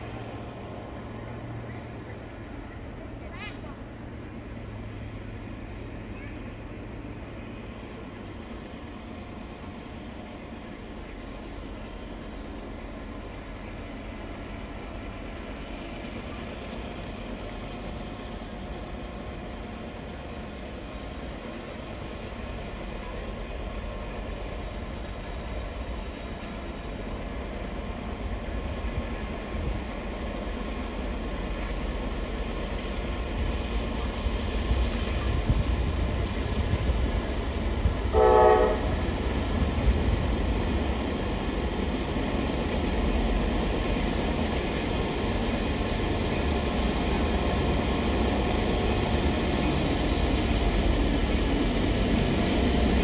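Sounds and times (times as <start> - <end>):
diesel train rumbling: 0.0 - 53.0.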